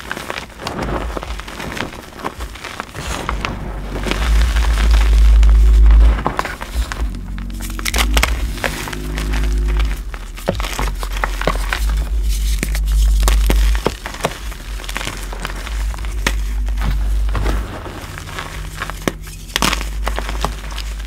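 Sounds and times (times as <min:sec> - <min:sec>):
hands crushing chalk: 0:00.0 - 0:21.0
low rumble: 0:00.6 - 0:21.0.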